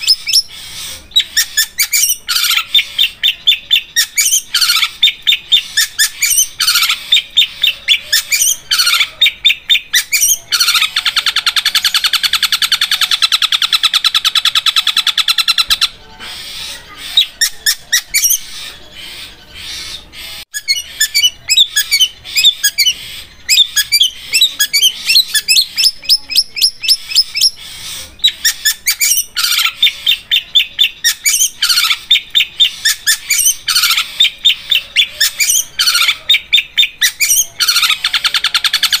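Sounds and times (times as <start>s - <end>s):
bird singing sharp chirps: 0.0s - 39.0s
fast even bird trill: 0.0s - 39.0s.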